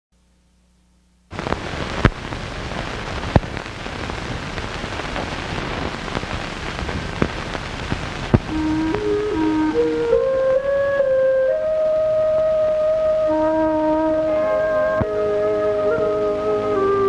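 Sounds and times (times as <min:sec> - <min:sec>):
film soundtrack hiss: 0:00.1 - 0:17.0
crackle and pops: 0:00.2 - 0:10.8, 0:11.6 - 0:17.0.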